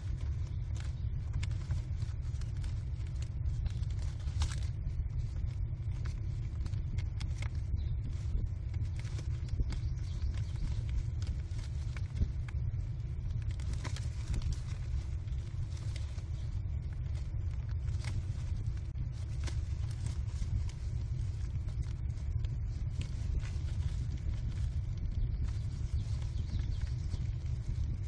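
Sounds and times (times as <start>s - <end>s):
steady low rumble: 0.0s - 28.0s
wing rustles: 0.0s - 28.0s.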